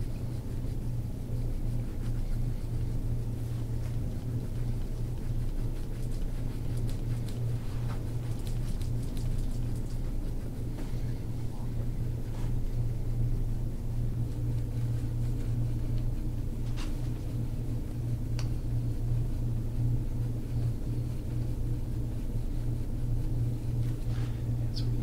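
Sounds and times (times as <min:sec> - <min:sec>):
low wavering hum: 0:00.0 - 0:25.0.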